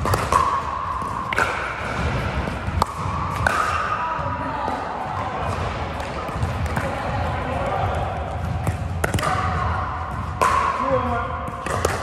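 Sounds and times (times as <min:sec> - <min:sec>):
paddles hitting plastic ball: 0:00.0 - 0:04.1, 0:04.7 - 0:12.0.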